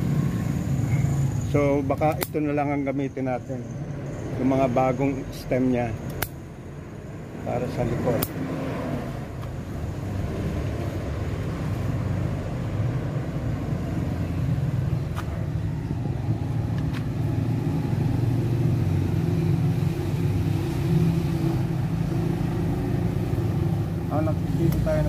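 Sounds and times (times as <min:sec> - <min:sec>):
engine rumble: 0:00.0 - 0:25.0.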